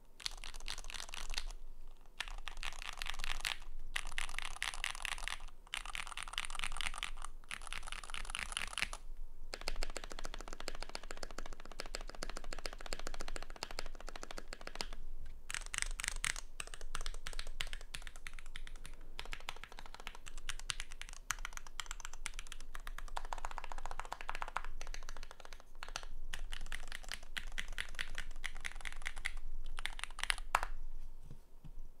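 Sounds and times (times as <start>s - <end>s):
typing on mechanical keyboard: 0.2s - 1.6s, 2.2s - 30.7s.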